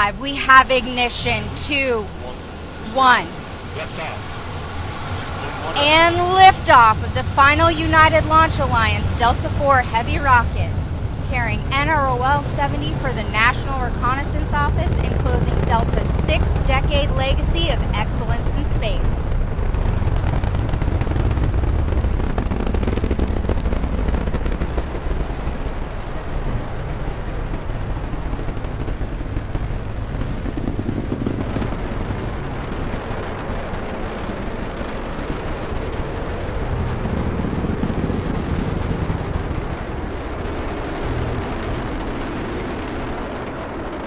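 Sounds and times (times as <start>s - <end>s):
rocket engines rumbling: 0.0s - 44.0s.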